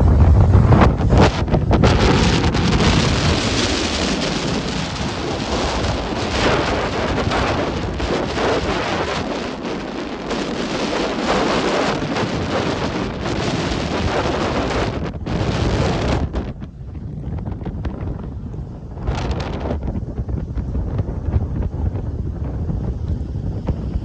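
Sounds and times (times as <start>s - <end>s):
rough sea waves breaking: 0.0s - 24.0s
wind buffeting microphone: 0.0s - 24.0s.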